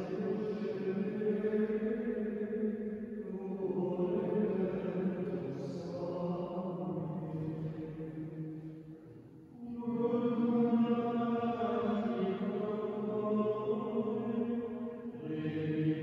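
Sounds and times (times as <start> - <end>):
monks chanting in unison: 0.0 - 8.7, 9.6 - 16.0.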